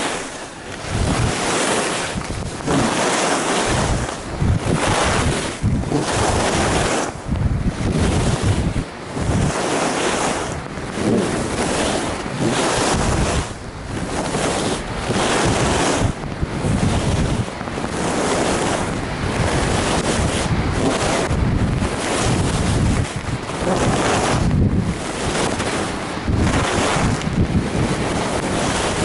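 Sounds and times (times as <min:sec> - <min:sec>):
skis scraping on snow: 0:00.0 - 0:29.0
wind rushing over microphone: 0:00.0 - 0:29.0.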